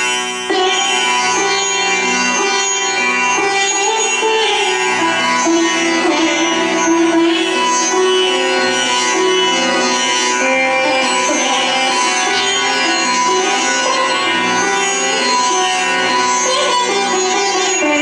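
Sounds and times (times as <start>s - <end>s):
held drone tones: 0.6s - 18.0s.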